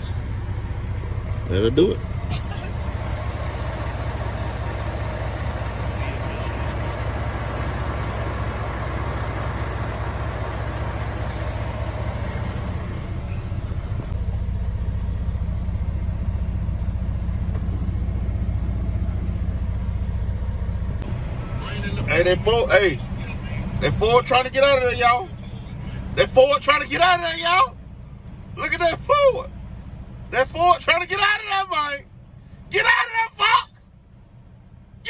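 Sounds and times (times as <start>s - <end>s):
diesel engine drone: 0.0s - 35.0s.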